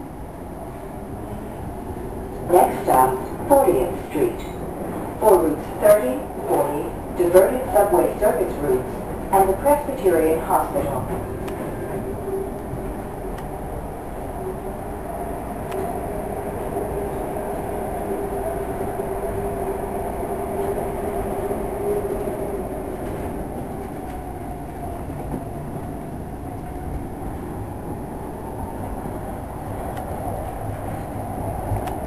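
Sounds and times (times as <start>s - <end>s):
subway wheels rumbling on rail: 0.0s - 32.0s.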